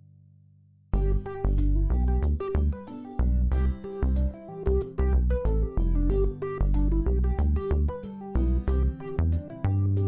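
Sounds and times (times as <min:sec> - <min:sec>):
background music with beat: 0:01.0 - 0:10.0.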